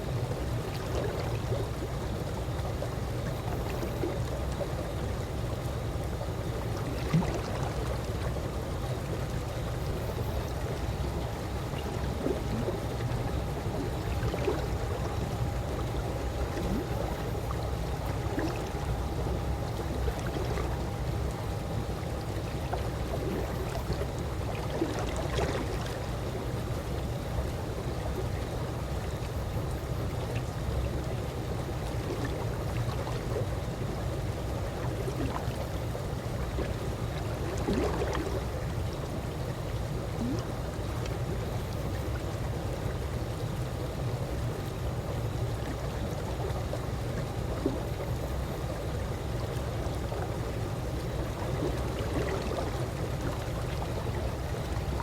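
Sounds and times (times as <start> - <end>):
pool water moving gently: 0.0 - 55.0
water gurgles: 0.0 - 55.0.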